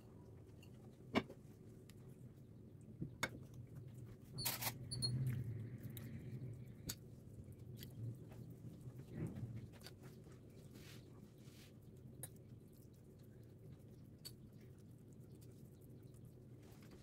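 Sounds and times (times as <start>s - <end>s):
soft food handling sounds: 0.0s - 17.0s.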